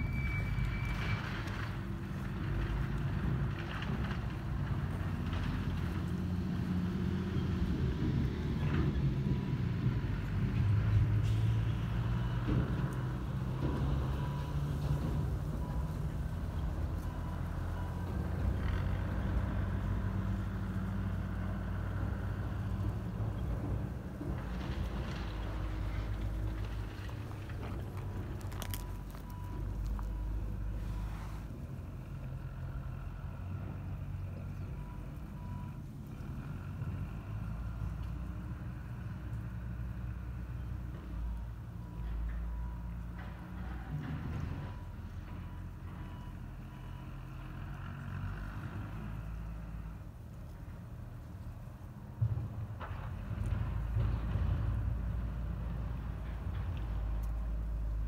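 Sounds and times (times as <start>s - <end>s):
low outdoor rumble: 0.0s - 58.0s
vehicle engine droning: 0.0s - 58.0s.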